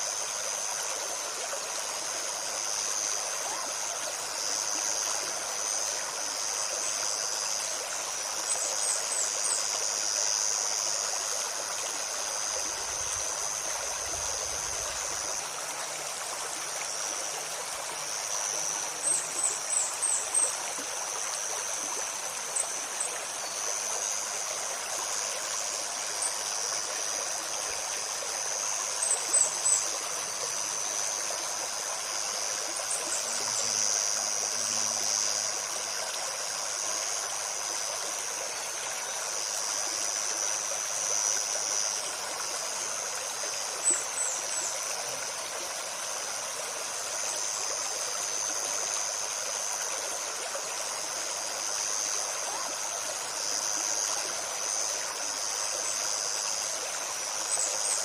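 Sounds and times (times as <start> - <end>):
high insect buzz: 0.0 - 58.0
stream babbling over stones: 0.0 - 58.0.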